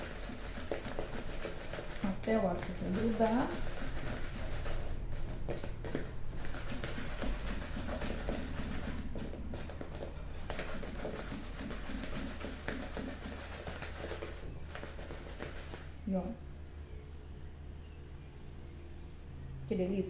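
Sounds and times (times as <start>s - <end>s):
dough balls rolling in sugar: 0.0s - 16.2s.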